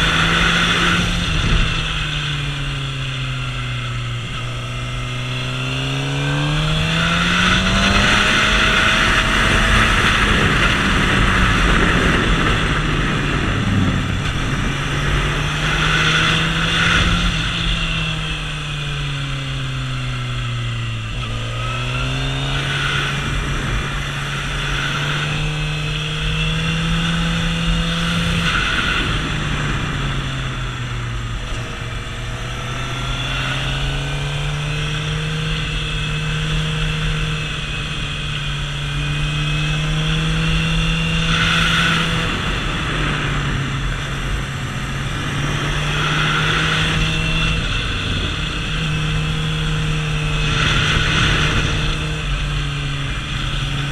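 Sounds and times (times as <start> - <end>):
motorcycle engine revving: 0.0 - 53.9
wind on microphone: 0.0 - 53.9.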